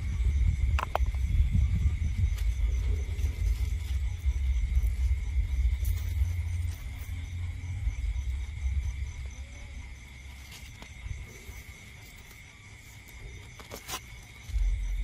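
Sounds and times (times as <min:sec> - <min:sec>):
low rumble: 0:00.0 - 0:12.0, 0:14.5 - 0:15.0
night insects chirring: 0:00.0 - 0:15.0.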